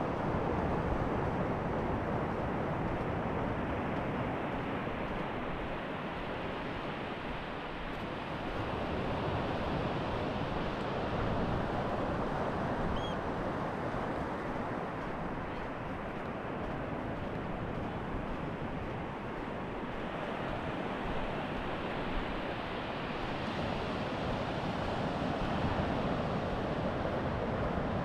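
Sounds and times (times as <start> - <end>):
sea surf washing on shore: 0.0 - 28.0
wind: 0.0 - 28.0.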